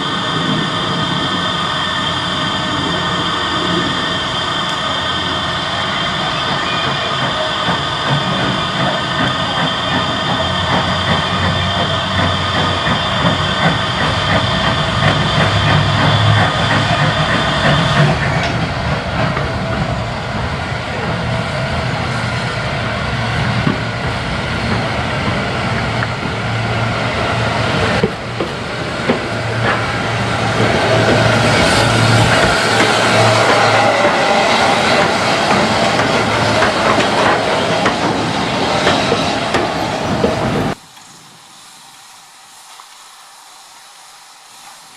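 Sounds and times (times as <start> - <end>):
wheels clattering on rails: 0.0 - 42.9
steam hissing: 0.0 - 44.9.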